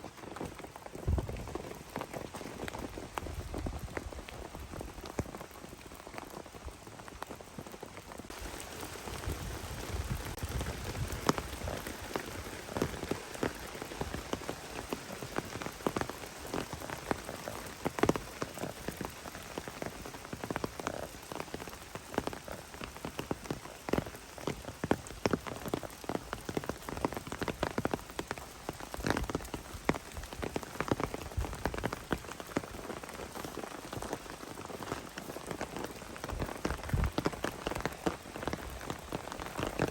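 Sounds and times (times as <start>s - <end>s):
heavy raindrops striking a surface: 0.0s - 39.9s
steady rain hissing: 0.0s - 39.9s.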